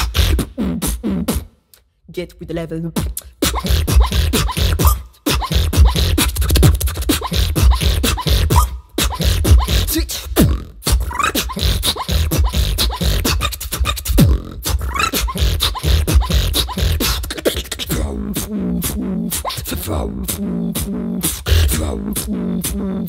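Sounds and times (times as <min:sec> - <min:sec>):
beatboxing: 0:00.0 - 0:02.0, 0:02.8 - 0:23.0.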